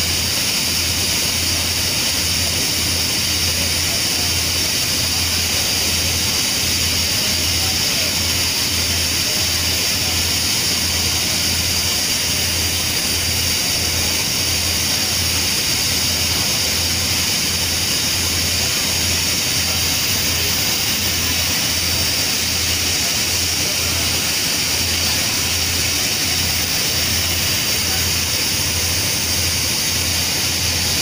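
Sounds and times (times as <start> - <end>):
steam hissing from locomotive: 0.0 - 31.0.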